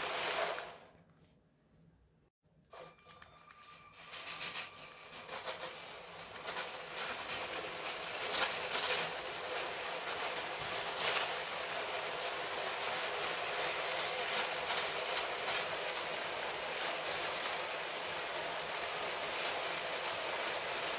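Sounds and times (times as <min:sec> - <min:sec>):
toy train wheels clattering: 0:02.7 - 0:20.9.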